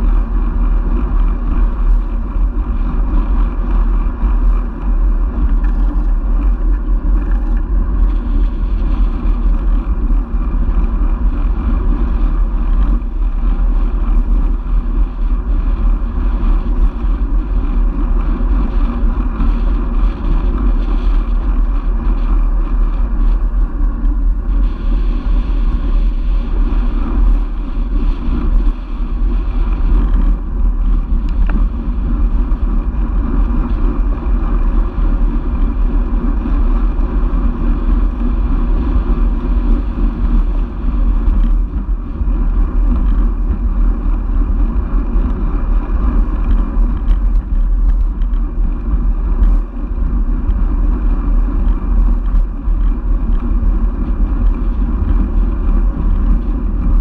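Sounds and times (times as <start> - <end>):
rushing noise of riding: 0.0 - 57.0
wind buffeting microphone: 0.0 - 57.0.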